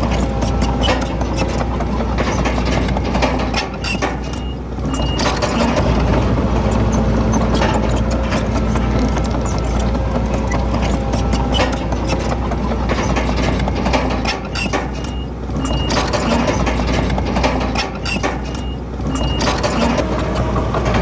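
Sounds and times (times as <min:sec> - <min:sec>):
clanks and knocks: 0:00.0 - 0:21.0
diesel engine running: 0:00.0 - 0:21.0.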